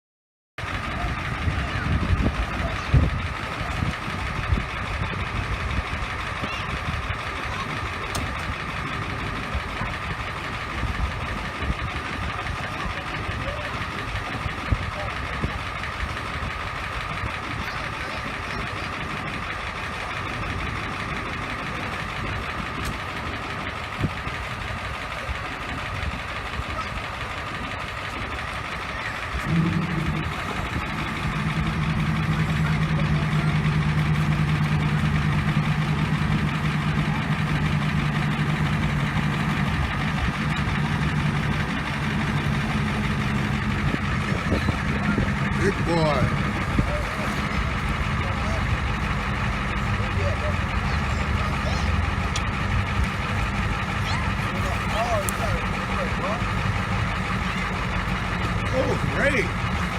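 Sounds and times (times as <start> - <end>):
deep loud steady drone: 0.6 - 59.9
motor running steadily: 0.6 - 59.9.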